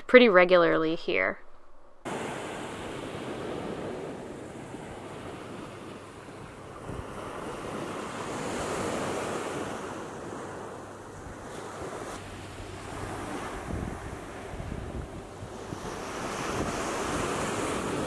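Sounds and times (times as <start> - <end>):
surf washing onto beach: 2.1 - 18.0
wind rumbling on microphone: 2.1 - 18.0.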